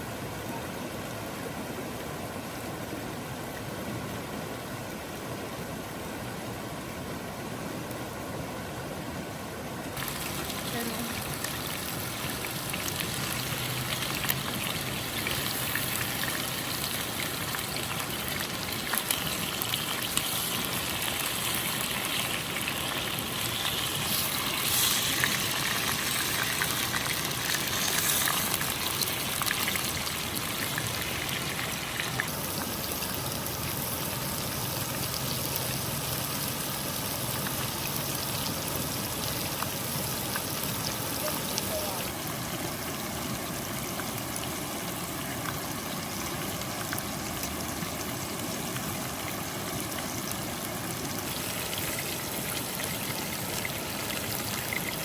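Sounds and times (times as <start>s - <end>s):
water running and trickling: 10.0s - 55.0s.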